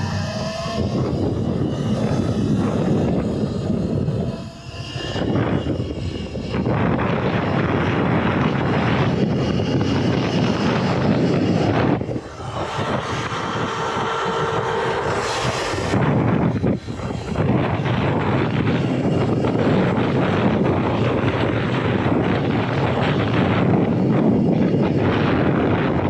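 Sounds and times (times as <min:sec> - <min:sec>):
electric motor whine: 0:00.0 - 0:26.0
wind rushing over microphone: 0:00.0 - 0:26.0.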